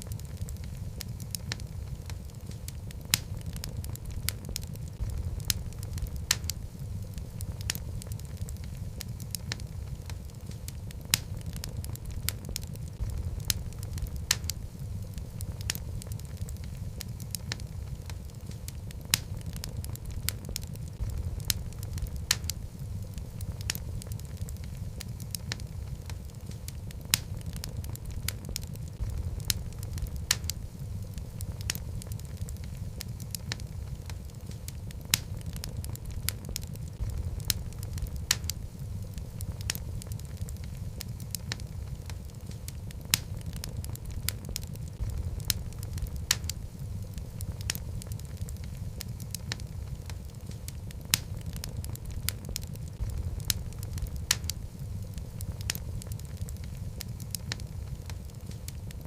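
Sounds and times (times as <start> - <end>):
flames rumbling: 0.0 - 59.0
logs crackling and popping: 0.0 - 59.0.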